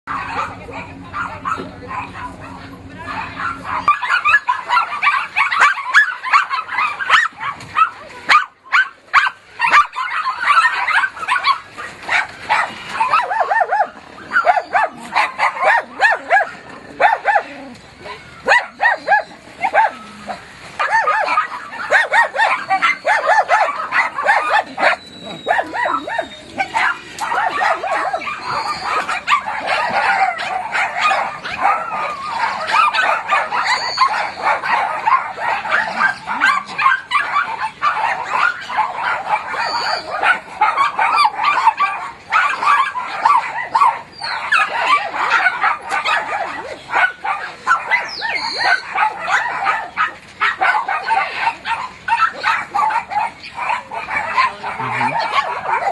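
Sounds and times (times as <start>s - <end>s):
small dogs barking and yapping: 0.0s - 55.9s.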